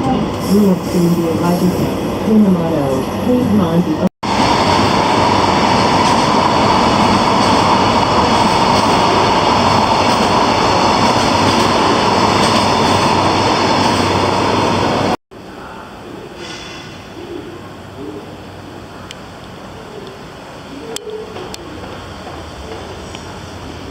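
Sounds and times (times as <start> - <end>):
train rushing past: 0.0 - 23.9.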